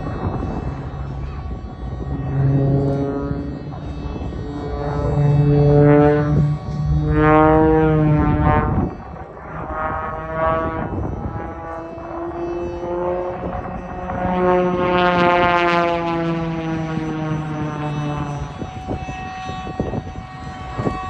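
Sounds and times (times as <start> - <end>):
propeller aircraft droning past: 0.0 - 21.0.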